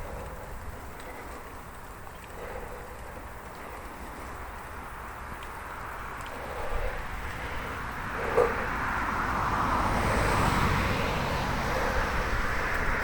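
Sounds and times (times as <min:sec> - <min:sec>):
car passing: 0:00.0 - 0:13.0
steady riding rumble: 0:00.0 - 0:13.0
tyre and road noise: 0:00.0 - 0:13.0.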